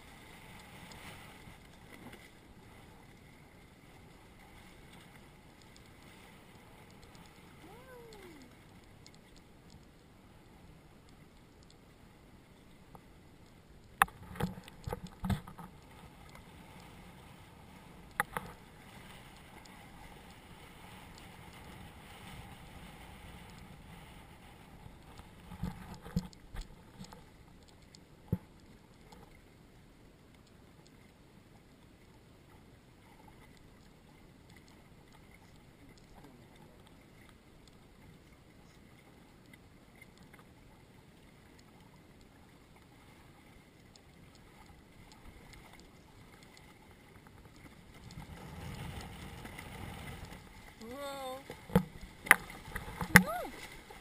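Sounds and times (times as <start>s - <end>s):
water and wind rushing: 0.0s - 54.0s.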